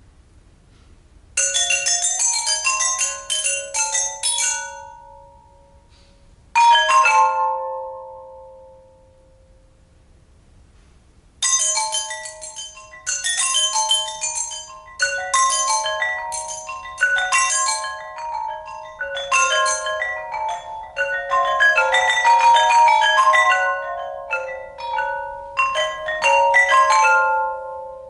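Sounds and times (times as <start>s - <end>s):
tuned metal pipes ringing: 1.4s - 9.6s, 11.4s - 28.0s.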